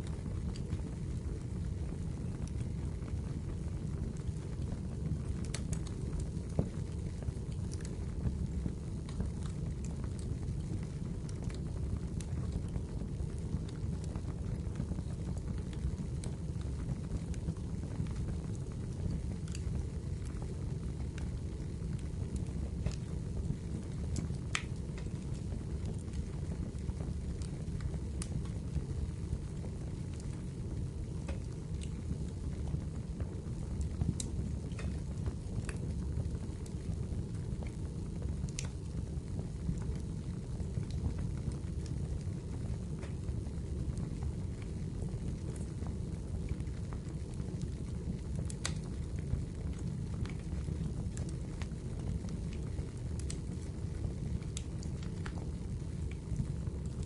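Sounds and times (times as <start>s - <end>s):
fire crackles and pops: 0.0s - 57.0s
fire flames rumbling: 0.0s - 57.0s.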